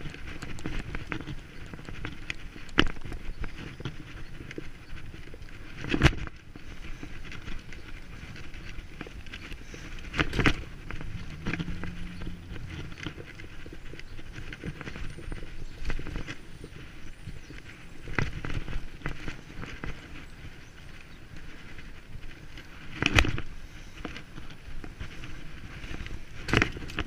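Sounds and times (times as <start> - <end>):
bicycle tyre noise on rough ground: 0.0 - 27.0
bike rattling: 0.0 - 27.0.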